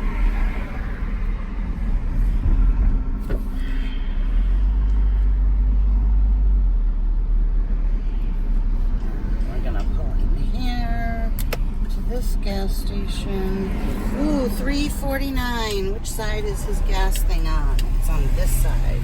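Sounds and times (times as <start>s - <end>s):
engine and road rumble in cab: 0.0s - 19.0s.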